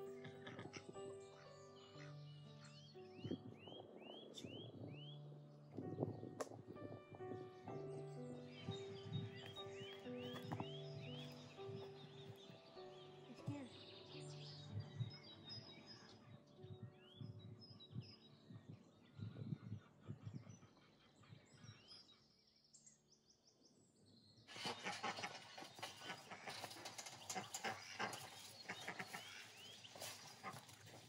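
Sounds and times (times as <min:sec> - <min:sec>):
birds chirping and calling: 0:00.0 - 0:05.2, 0:07.3 - 0:22.2, 0:24.5 - 0:31.0.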